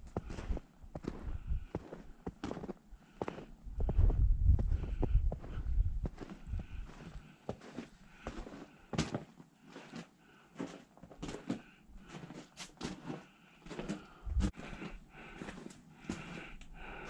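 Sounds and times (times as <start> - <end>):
footsteps in snow: 0.0 - 17.0.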